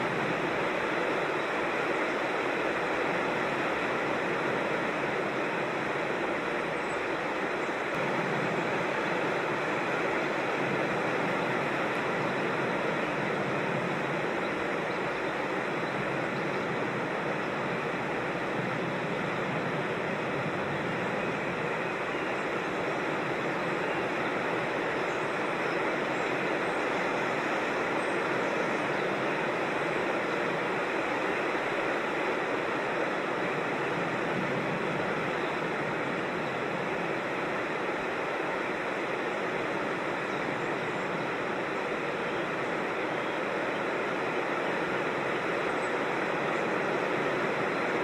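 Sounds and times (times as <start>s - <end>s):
creek water rushing over rocks: 0.0s - 48.0s.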